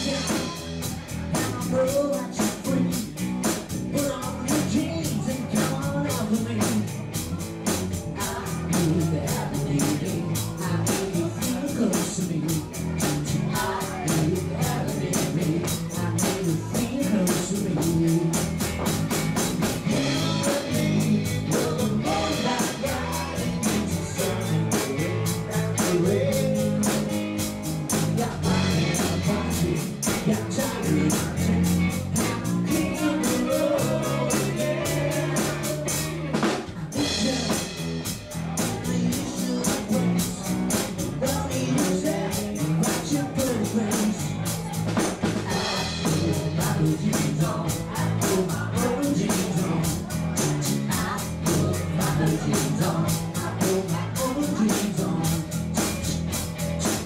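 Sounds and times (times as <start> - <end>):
drum kit steady beat: 0.0 - 57.0
electric guitar: 0.0 - 57.0
man singing: 0.0 - 57.0.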